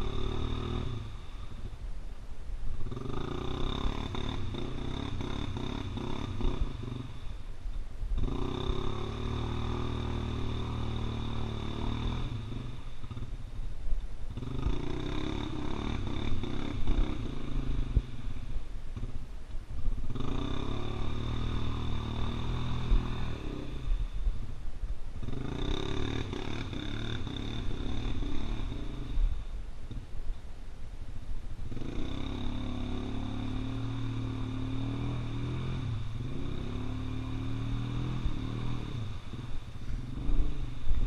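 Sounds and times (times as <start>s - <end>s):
atv engine revving: 0.0s - 1.8s, 2.8s - 7.5s, 8.1s - 13.6s, 14.3s - 24.6s, 25.2s - 30.1s, 31.6s - 41.0s.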